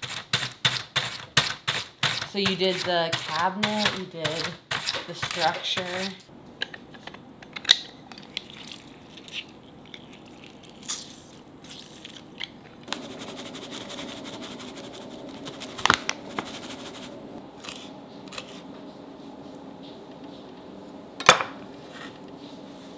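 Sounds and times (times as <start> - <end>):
steady low hum: 2.3 - 22.9.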